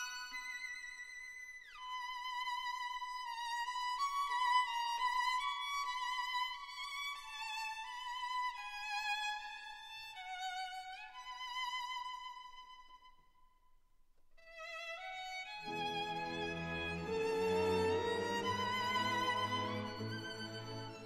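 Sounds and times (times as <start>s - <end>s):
solo violin slow melody: 0.0s - 13.2s, 14.4s - 21.0s.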